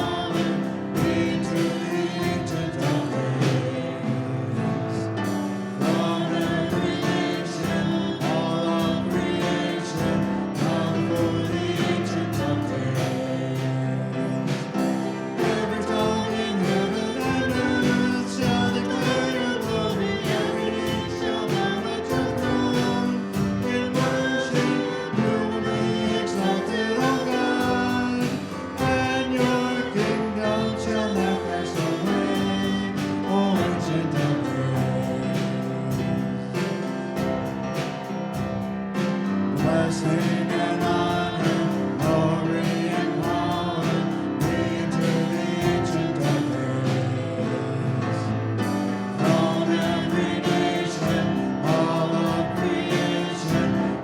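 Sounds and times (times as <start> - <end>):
instrumental band: 0.0 - 54.0
voices singing worship song: 0.0 - 54.0.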